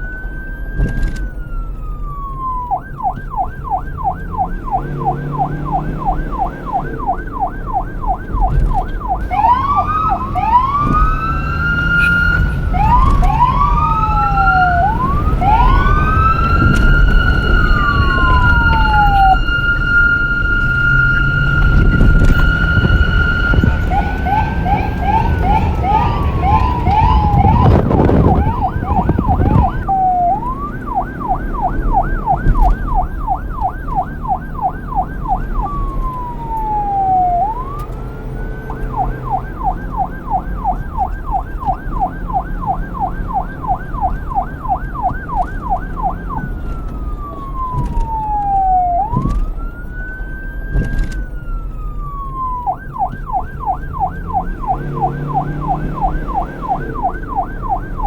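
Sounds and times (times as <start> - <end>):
police siren wailing and yelping: 0.0 - 58.0.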